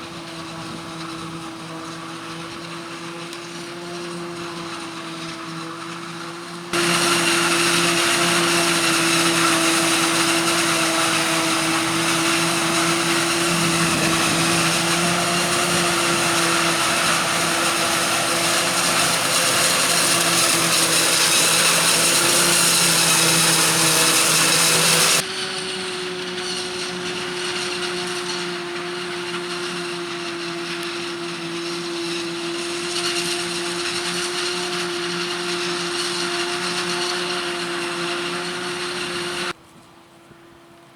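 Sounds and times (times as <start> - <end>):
forage harvester whine: 0.0 - 40.9.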